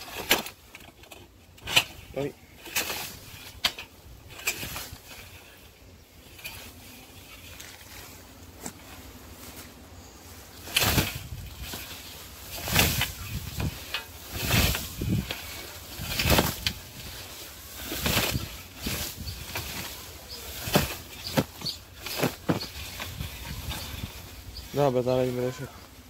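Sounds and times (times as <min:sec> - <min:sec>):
light rustling: 0:00.0 - 0:26.0
scythe swishing through plants: 0:02.6 - 0:09.8, 0:10.4 - 0:25.6.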